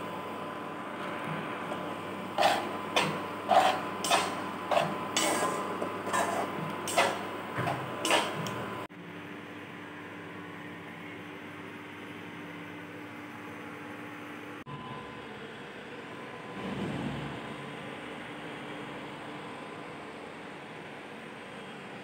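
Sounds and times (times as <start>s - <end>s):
induction cooktop hum: 0.0s - 22.0s.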